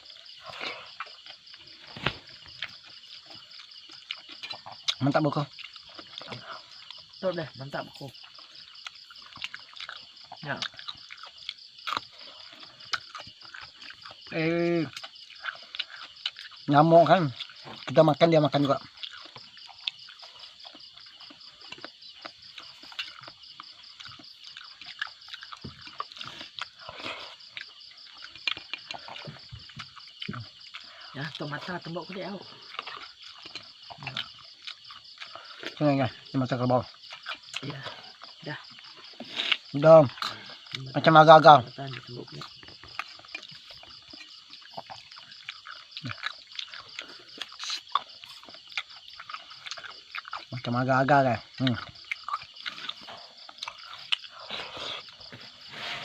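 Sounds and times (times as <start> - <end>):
frogs croaking: 0.0 - 56.0
high pulsing wildlife chorus: 0.0 - 56.0.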